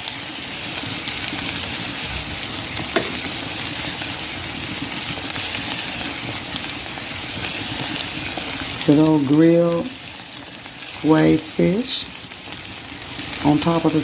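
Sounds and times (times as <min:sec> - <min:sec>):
fish fillets sizzling in oil: 0:00.0 - 0:14.0.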